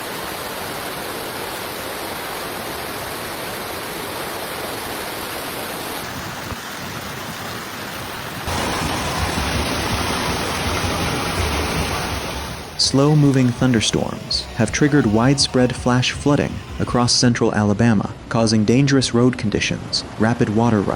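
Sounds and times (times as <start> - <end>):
water rushing: 0.0 - 20.9.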